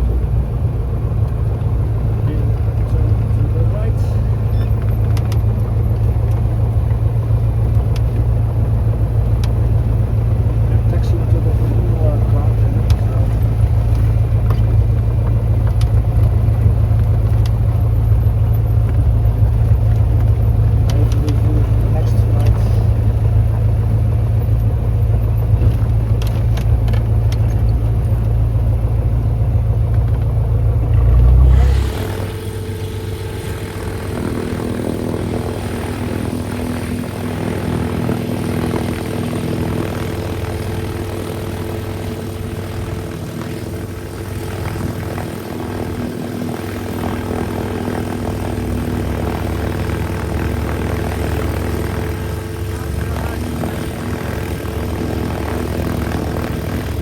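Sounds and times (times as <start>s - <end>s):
small plane engine and propeller: 0.0s - 57.0s.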